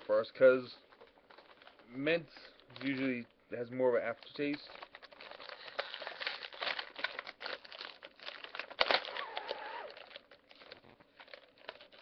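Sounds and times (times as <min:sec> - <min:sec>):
plastic package crinkling: 0:00.0 - 0:12.0
sharp plastic crackle: 0:00.0 - 0:12.0.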